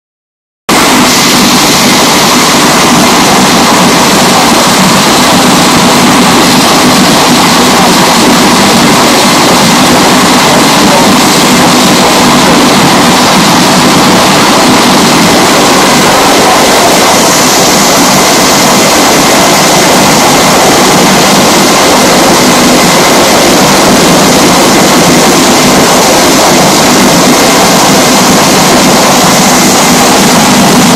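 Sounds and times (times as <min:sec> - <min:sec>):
wind tunnel air rush and fan: 0:00.7 - 0:30.9.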